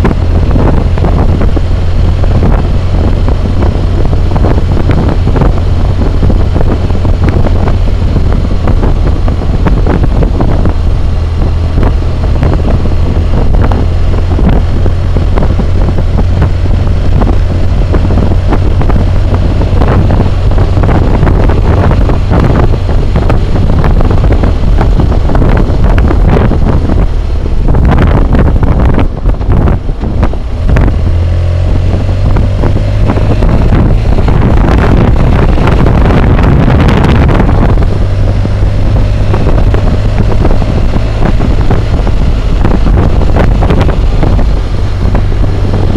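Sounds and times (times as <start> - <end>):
motorcycle engine running: 0.0 - 45.9
wind buffeting microphone: 0.0 - 45.9.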